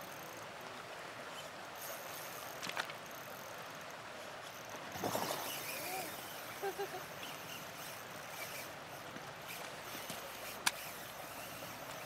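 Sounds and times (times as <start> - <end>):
river flowing over gravel: 0.0 - 12.0.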